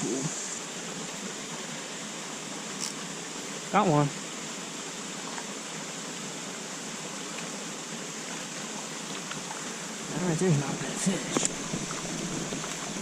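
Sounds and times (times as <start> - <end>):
mountain creek rushing: 0.0 - 13.0.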